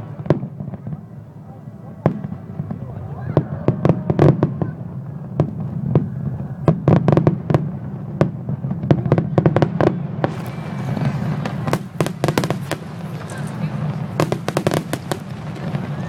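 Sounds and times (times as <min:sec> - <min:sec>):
crackling hiss: 0:00.0 - 0:16.0
fireworks bangs and pops: 0:02.0 - 0:16.0.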